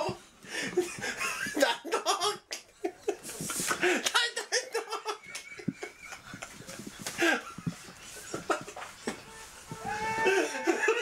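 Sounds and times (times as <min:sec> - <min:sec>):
men laughing: 0:00.0 - 0:11.0.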